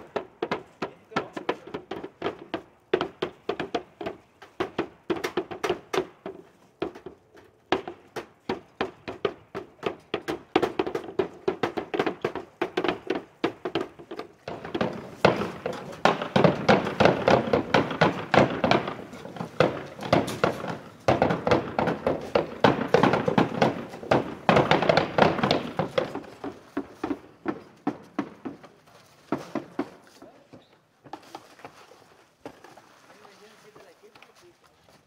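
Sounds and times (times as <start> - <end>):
hand tools knocking on wooden roof: 0.0 - 31.5.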